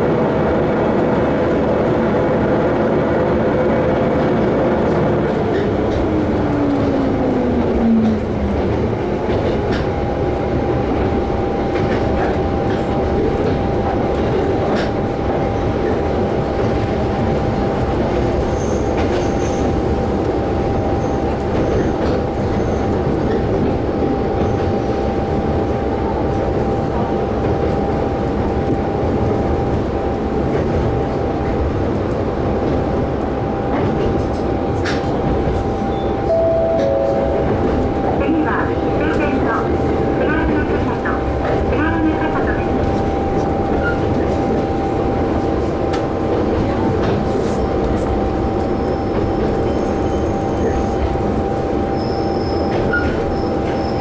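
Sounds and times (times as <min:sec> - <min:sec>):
train engine and wheels rumbling: 0:00.0 - 0:54.0.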